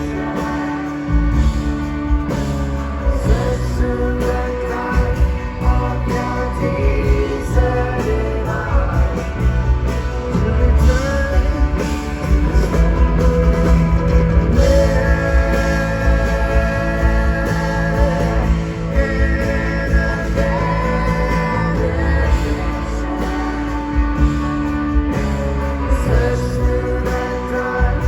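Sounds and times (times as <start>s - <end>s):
lead voice singing: 0.0s - 28.0s
rock band playing live: 0.0s - 28.0s.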